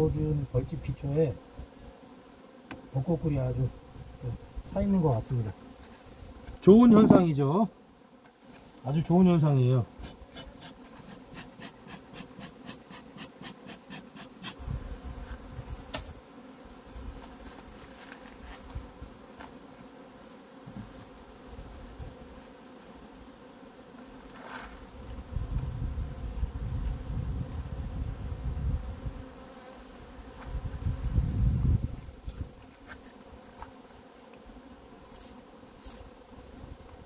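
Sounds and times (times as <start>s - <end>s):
honeybees buzzing: 0.0s - 37.0s.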